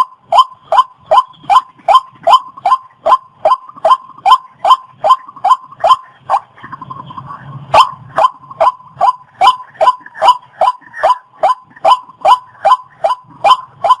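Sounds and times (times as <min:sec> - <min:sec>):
waterhen calling harshly: 0:00.0 - 0:06.6, 0:07.8 - 0:14.0.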